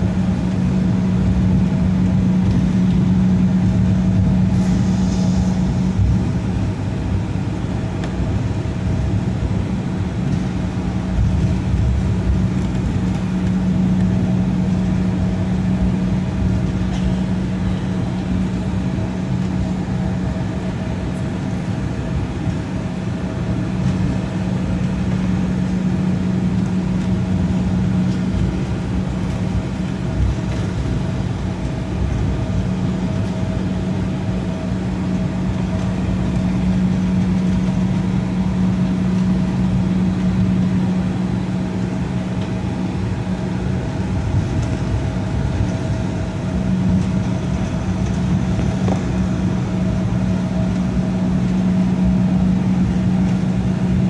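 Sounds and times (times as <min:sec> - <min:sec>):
jet engines humming: 0:00.0 - 0:54.0
low rumble: 0:00.0 - 0:54.0.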